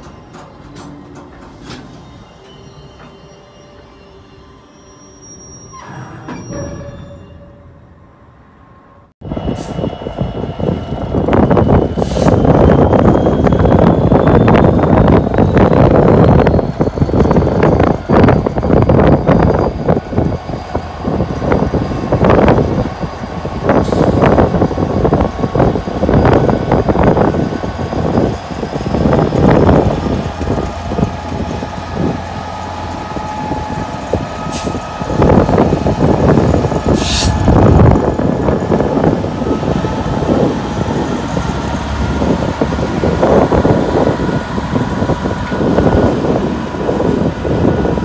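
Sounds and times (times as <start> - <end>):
diesel locomotive engine running: 5.3 - 48.0
wind buffeting microphone: 9.2 - 48.0.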